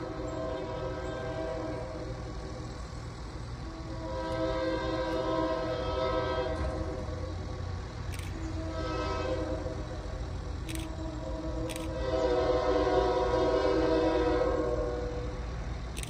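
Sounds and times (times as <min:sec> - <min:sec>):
locomotive horn blast: 0:00.0 - 0:02.4, 0:03.6 - 0:07.4, 0:08.4 - 0:15.5
low diesel rumble: 0:00.0 - 0:16.0.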